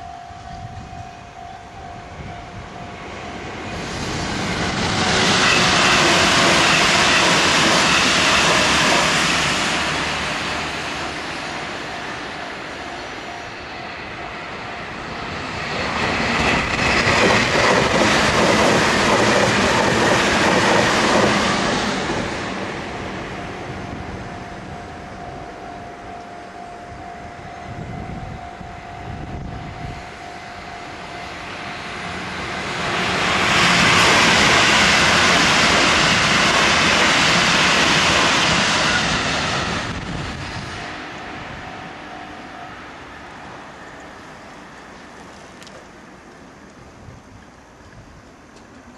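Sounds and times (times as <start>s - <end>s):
crossing warning bell ringing: 0.0s - 19.8s, 22.8s - 36.4s, 38.4s - 46.6s
electric trains passing: 0.0s - 48.9s.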